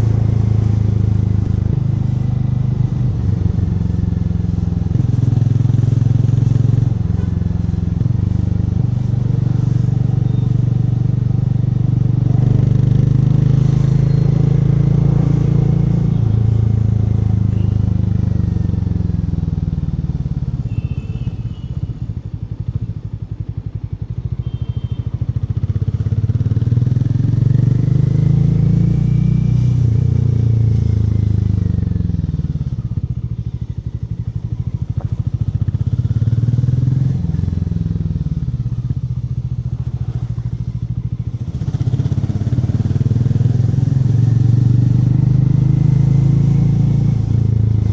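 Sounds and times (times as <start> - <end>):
motorcycle engine rumbling: 0.0 - 47.9.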